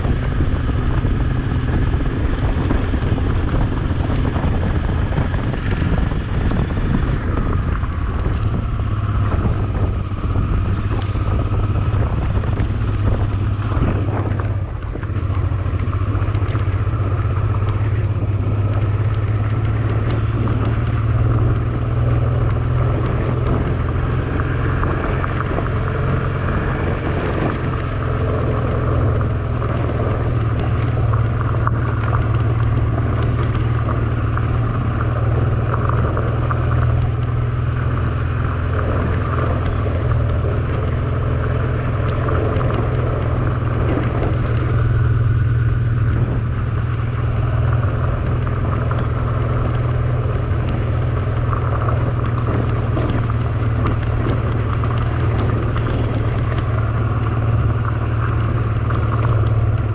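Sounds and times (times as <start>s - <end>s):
motorcycle engine rumbling: 0.0s - 59.9s.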